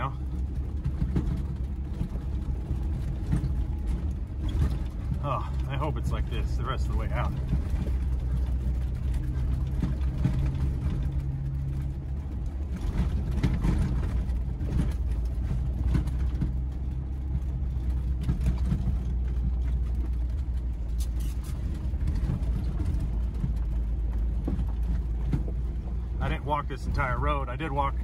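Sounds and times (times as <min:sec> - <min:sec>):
car engine running: 0:00.0 - 0:28.0
vehicle knocks and rattles: 0:00.0 - 0:28.0.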